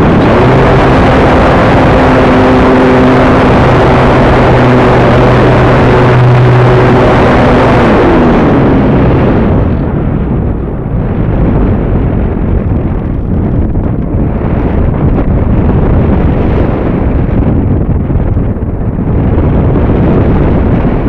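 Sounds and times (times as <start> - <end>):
electric motor and propeller drone: 0.0 - 17.9
wind rush on microphone: 0.0 - 21.0.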